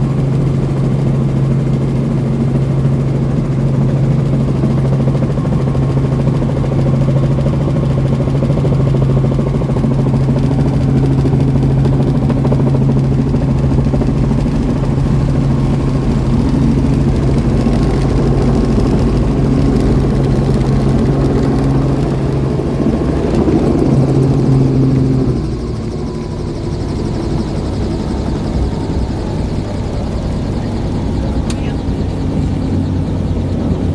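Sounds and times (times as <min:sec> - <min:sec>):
helicopter drone: 0:00.0 - 0:33.9.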